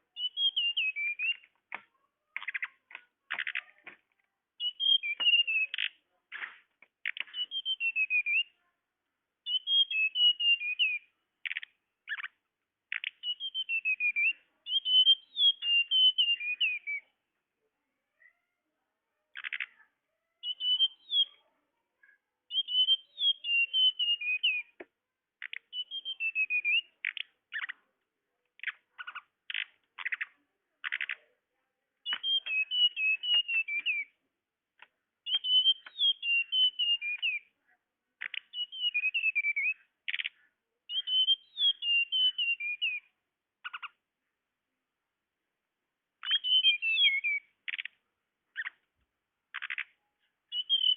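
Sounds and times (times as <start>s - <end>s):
bird twittering and tick calls: 0.0s - 8.6s, 9.4s - 17.1s, 19.3s - 21.4s, 22.0s - 31.4s, 32.0s - 34.2s, 34.8s - 44.0s, 46.2s - 50.9s.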